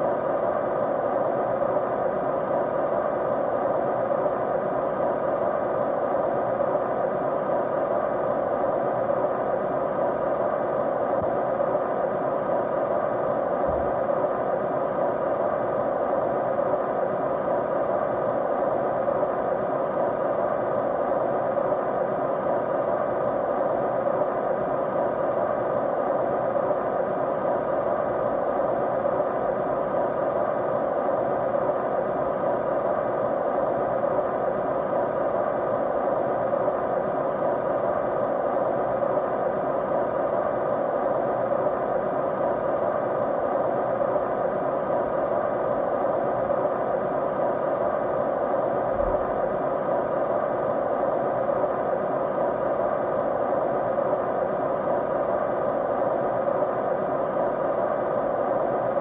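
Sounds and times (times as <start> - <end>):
faint steady tones: 0.0 - 59.0.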